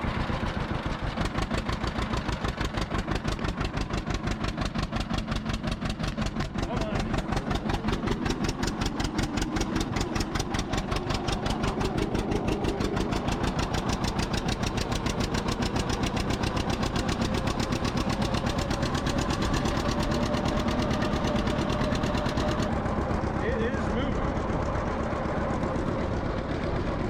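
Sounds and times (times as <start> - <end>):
tractor engine exhaust popping: 0.0 - 27.0.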